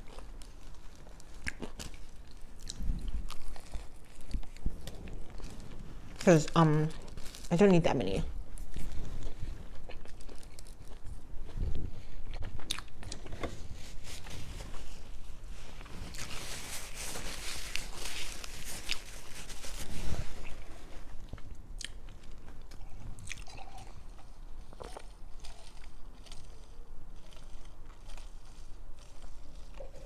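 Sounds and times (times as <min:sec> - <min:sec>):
biting and chewing: 0:00.0 - 0:07.5, 0:08.6 - 0:14.3, 0:15.8 - 0:30.0.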